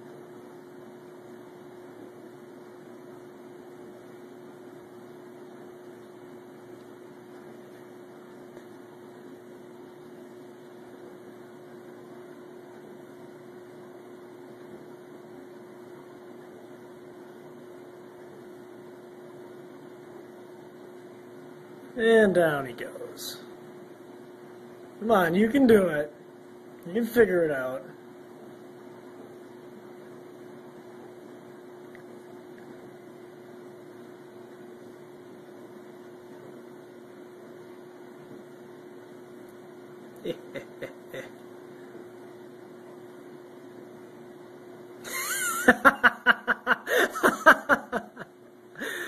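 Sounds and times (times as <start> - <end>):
faint constant hum: 0.0 - 49.0.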